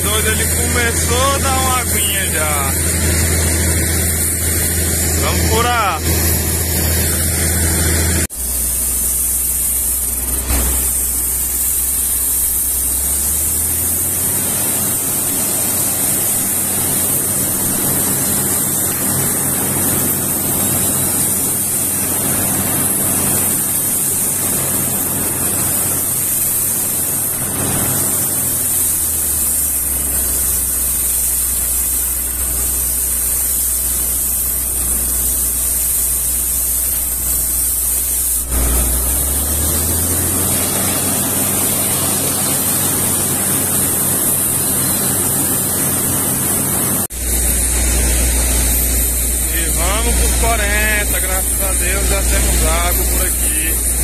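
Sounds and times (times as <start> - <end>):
compressed air rushing from borehole: 0.0 - 54.0
drilling rig engine hum: 0.0 - 54.0.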